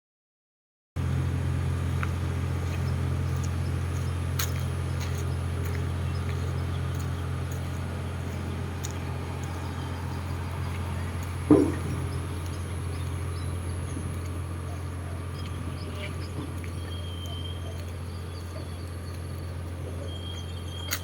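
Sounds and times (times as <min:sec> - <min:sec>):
low hum: 0:01.0 - 0:21.0.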